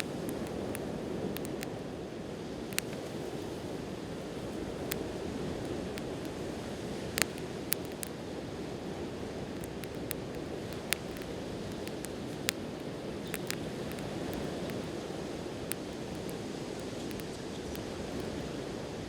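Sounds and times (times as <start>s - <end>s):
burning wood popping: 0.0s - 1.8s, 2.6s - 8.4s, 9.2s - 18.4s
campfire crackling: 0.0s - 18.7s.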